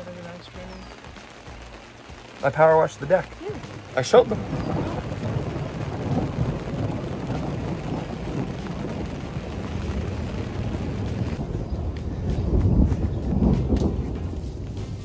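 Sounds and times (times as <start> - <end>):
thunder rumbling: 2.4 - 15.0.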